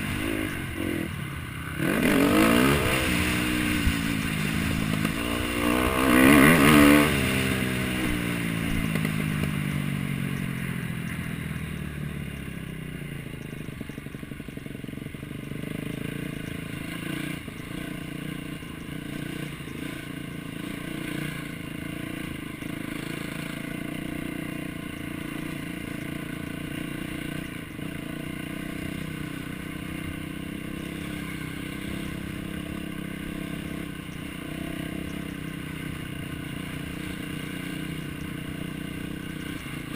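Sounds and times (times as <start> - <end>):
motocross bike engine: 0.0 - 39.9
motocross engines running: 0.0 - 39.9.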